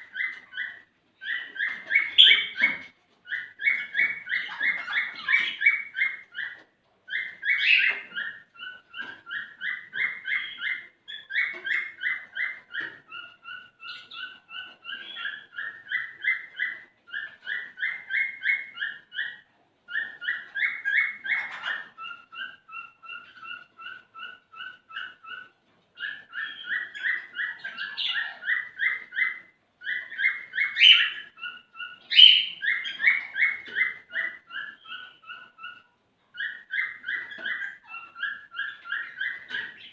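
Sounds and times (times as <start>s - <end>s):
cockatiel whistling song: 0.0s - 39.9s.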